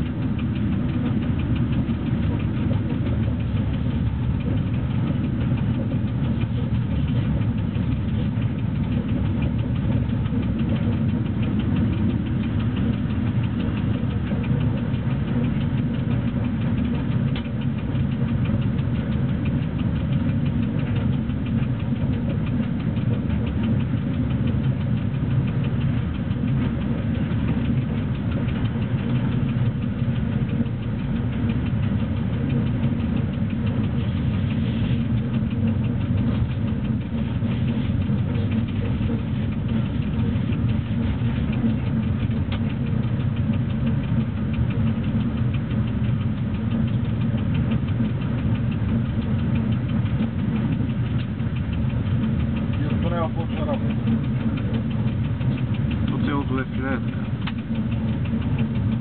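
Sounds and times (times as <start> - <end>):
light fast rattle: 0.0 - 59.0
locomotive running rumble: 0.0 - 59.0.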